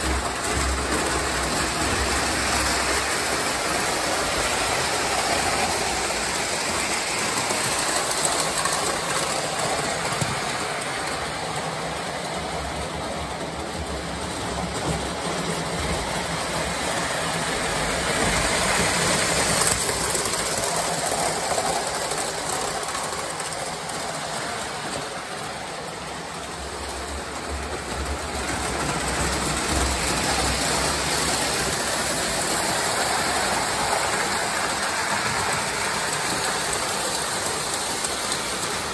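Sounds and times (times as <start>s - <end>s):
model train motors whirring: 0.0s - 38.9s
wheels rumbling on rails: 0.0s - 38.9s.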